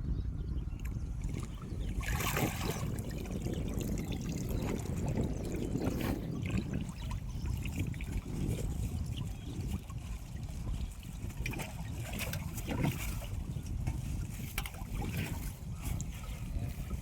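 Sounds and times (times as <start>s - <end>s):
water splashing and trickling: 0.8s - 17.0s.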